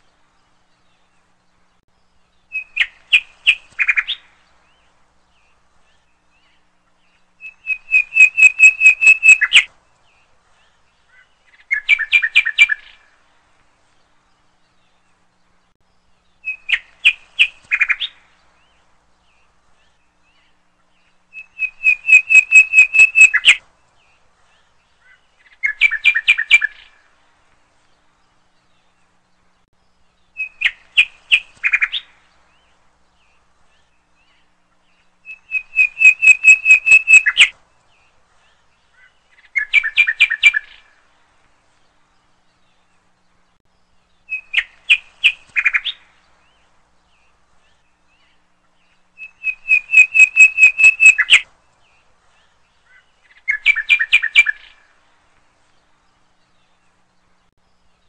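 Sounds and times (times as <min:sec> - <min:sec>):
bird chirping: 0:00.0 - 0:58.0.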